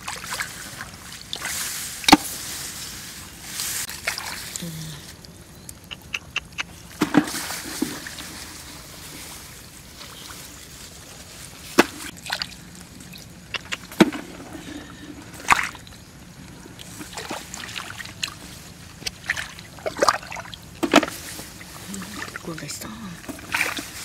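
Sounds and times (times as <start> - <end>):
shallow water sloshing: 0.0 - 24.0
water splashes: 0.0 - 24.0.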